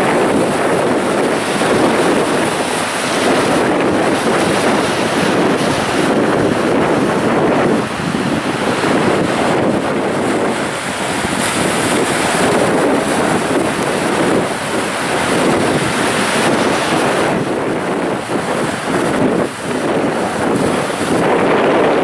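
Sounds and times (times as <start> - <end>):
waves breaking over rocks: 0.0 - 22.0.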